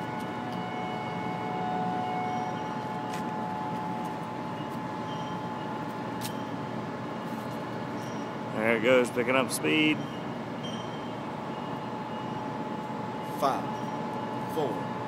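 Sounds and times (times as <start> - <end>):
mechanical hum with high whine: 0.0 - 15.0.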